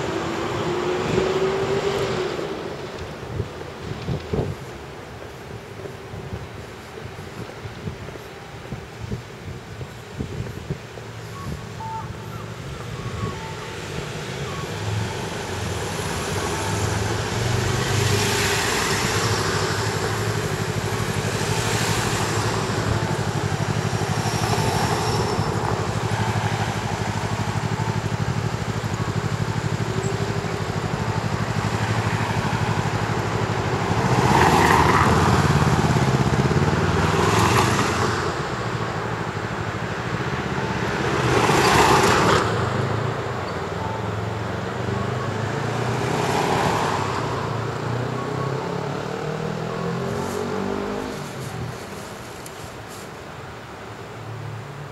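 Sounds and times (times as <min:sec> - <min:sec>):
traffic rumble: 0:00.0 - 0:54.9
vehicles sweeping past: 0:00.0 - 0:54.9.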